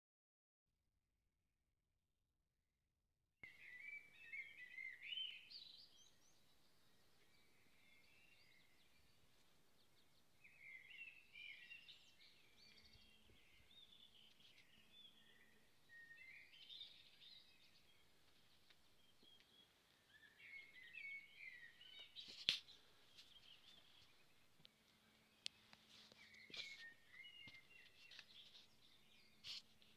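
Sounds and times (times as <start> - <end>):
faint bird chirps and twitters: 3.4 - 29.9.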